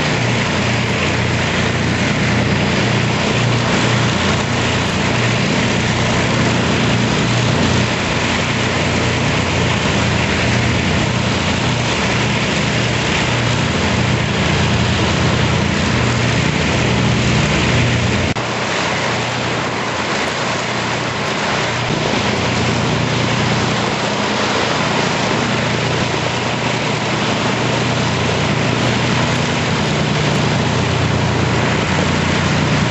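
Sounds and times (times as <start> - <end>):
piston engines droning: 0.0 - 32.9.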